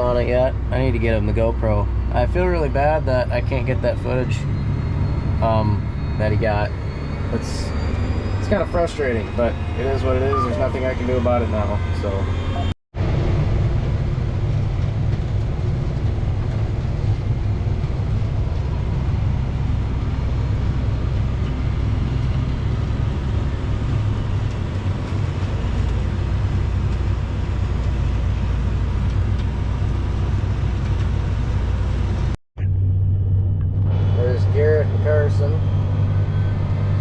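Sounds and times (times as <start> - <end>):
steady engine hum: 0.0 - 37.0
tractor engine rumbling: 0.0 - 37.0.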